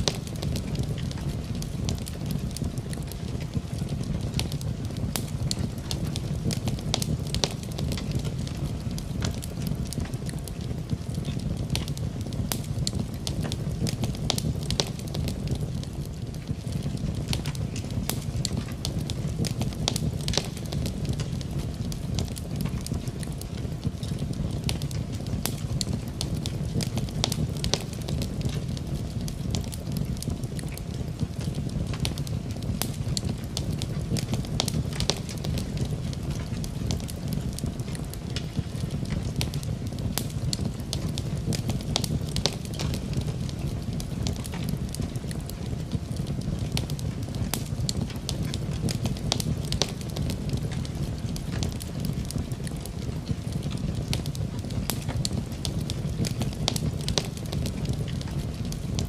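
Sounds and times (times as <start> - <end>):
rain hiss: 0.0 - 59.0
wood fire crackling and popping: 0.0 - 59.0.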